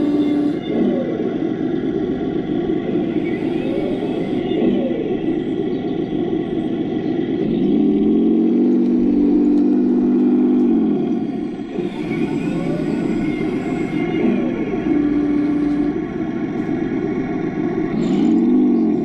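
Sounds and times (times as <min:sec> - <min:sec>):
toy tank motor running: 0:00.0 - 0:19.0.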